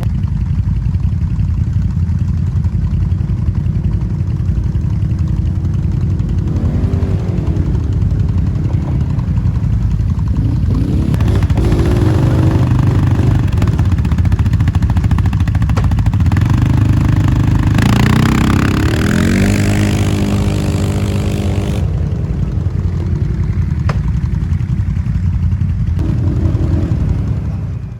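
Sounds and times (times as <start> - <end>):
atv engine idling and revving: 0.0 - 27.9.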